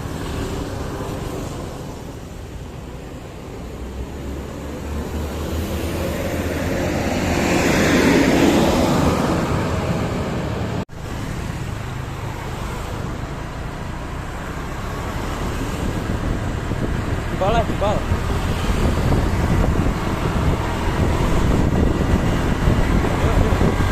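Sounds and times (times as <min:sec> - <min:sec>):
steady traffic noise: 0:00.0 - 0:23.9
vehicle passing close by: 0:03.4 - 0:23.9.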